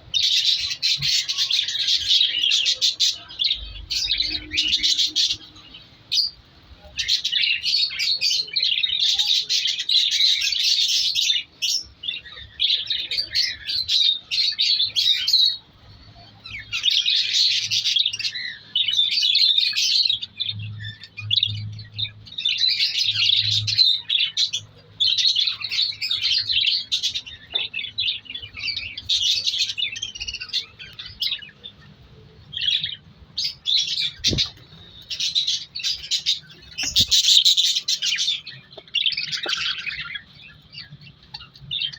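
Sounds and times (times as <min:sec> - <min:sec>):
budgerigars chattering and chirping: 0:00.1 - 0:41.9.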